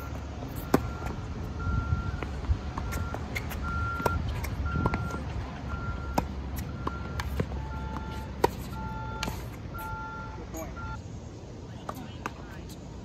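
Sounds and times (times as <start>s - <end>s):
reversing alarm beeps: 0.0s - 11.0s.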